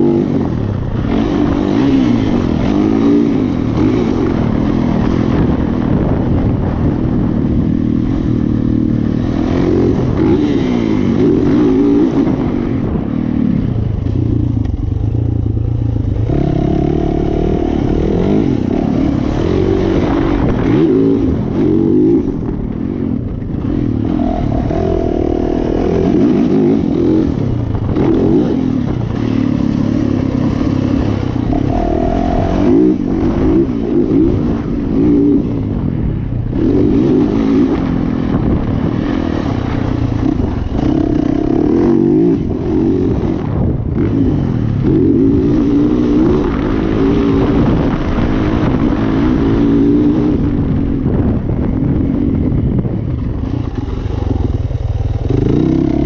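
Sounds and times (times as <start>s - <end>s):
motocross bike engine revving: 0.0s - 51.0s, 53.3s - 56.0s.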